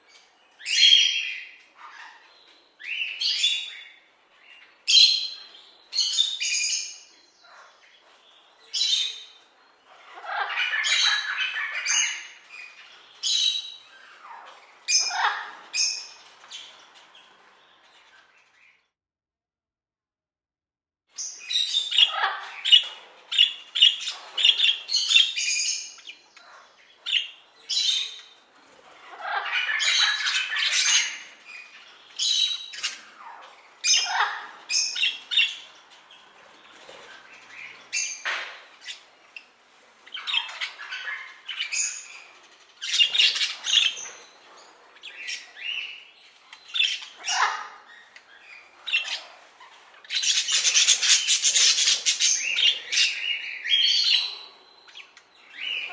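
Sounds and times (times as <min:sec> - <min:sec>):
parrots calling: 0:00.6 - 0:18.8, 0:21.2 - 0:55.9.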